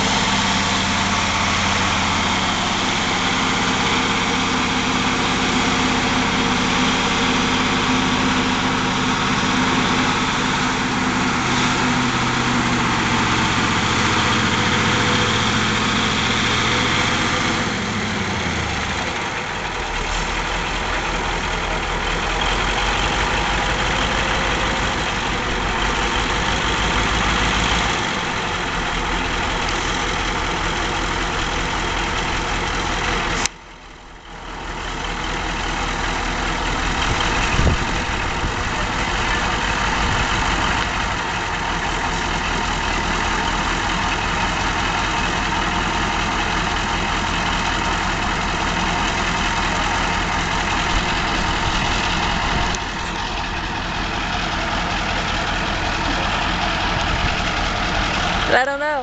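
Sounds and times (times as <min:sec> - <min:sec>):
wheel loader diesel engine idling: 0:00.0 - 0:59.0.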